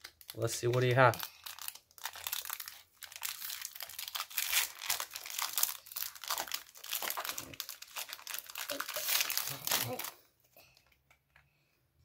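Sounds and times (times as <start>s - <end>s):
foil wrapper crinkling: 0.0s - 10.9s.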